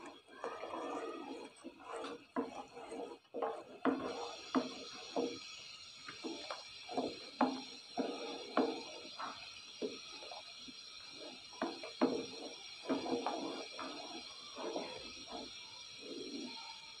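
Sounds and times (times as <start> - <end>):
wooden spoon scraping metal pot: 0.0 - 16.7
steady hiss: 3.2 - 17.0.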